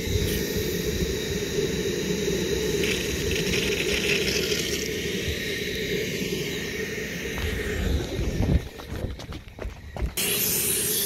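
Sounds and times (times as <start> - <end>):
steam hissing: 0.0 - 8.8, 9.8 - 11.0.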